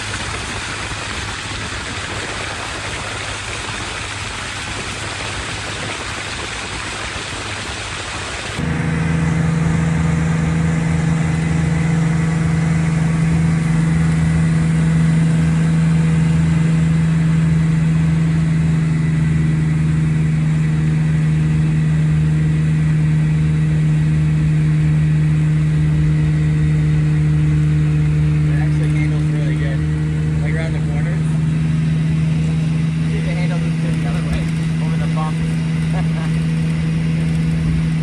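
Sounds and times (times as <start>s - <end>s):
outboard motor droning: 0.0s - 38.0s.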